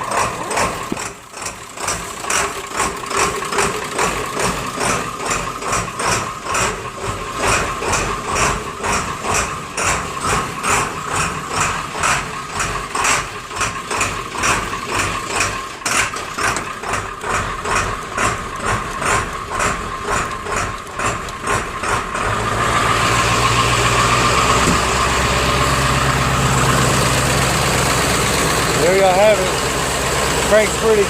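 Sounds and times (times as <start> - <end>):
diesel engine idling: 0.0 - 31.0
starter cranking diesel engine: 0.0 - 31.0.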